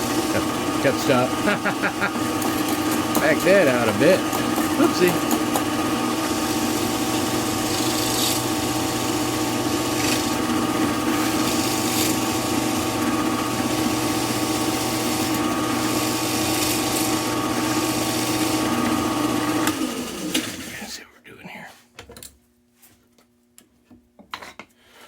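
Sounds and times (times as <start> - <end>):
drill press boring into wood: 0.0 - 20.7.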